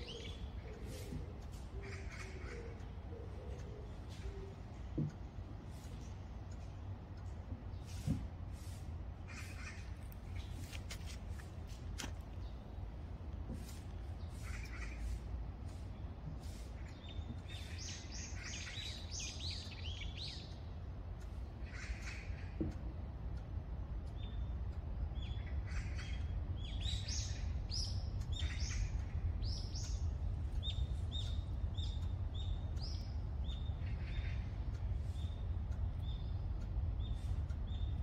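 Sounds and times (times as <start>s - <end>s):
birds chirping: 0.0s - 8.1s, 9.1s - 22.6s, 23.5s - 38.0s
steady low rumble: 0.0s - 38.0s.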